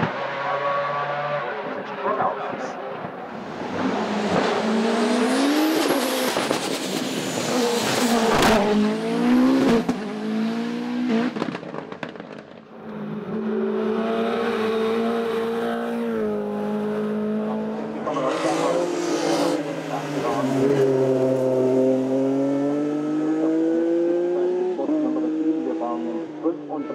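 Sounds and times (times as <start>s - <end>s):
race car engines revving: 0.0s - 26.9s.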